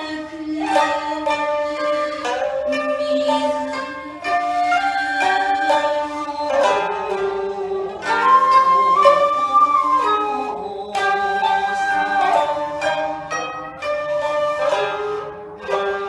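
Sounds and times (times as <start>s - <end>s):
woman singing: 0.0s - 13.4s
bamboo flute long notes: 0.0s - 16.0s
plucked koto: 0.0s - 16.0s
plucked shamisen: 0.0s - 16.0s.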